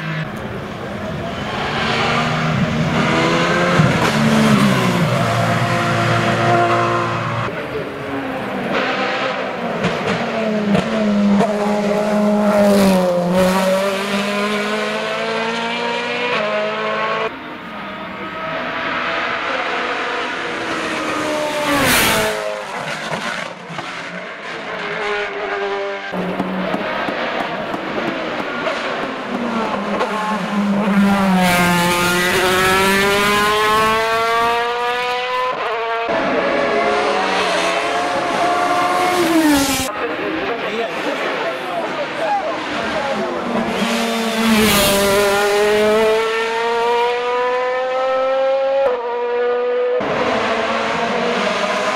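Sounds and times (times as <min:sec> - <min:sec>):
racing car engines revving: 0:00.0 - 0:51.9.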